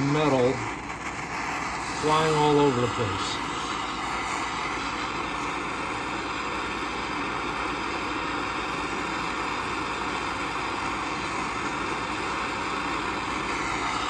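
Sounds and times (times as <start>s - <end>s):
gas torch flame hissing: 0.0s - 14.0s.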